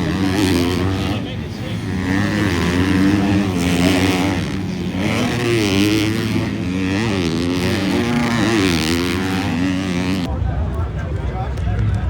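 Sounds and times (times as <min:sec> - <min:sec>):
motocross bikes revving: 0:00.0 - 0:10.4.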